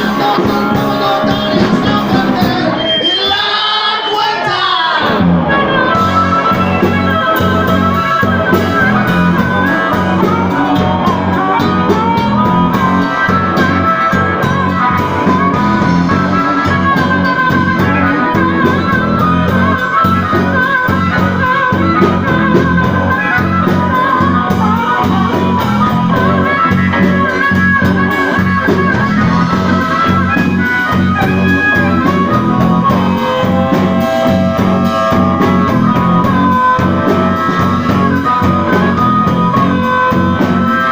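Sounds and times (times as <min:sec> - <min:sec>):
bass and drum beat: 0:00.0 - 0:02.8, 0:05.0 - 0:40.9
blues guitar lines: 0:00.0 - 0:40.9.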